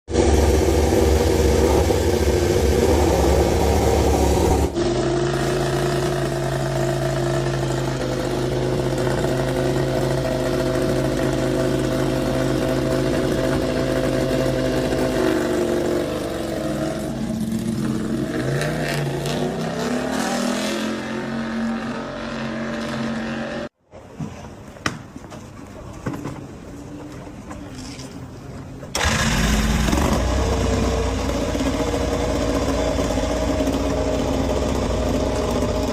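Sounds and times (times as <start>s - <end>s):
racing motorcycle engines: 0.1s - 23.8s, 29.0s - 35.9s.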